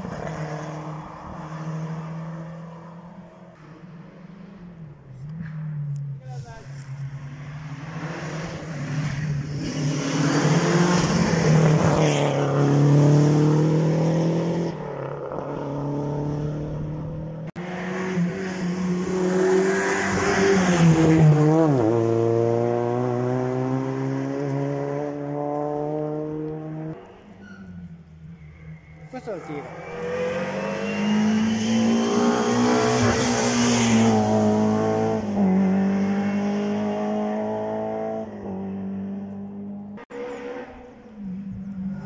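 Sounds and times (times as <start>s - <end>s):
rally car engine revving: 0.0s - 28.6s, 29.6s - 42.0s.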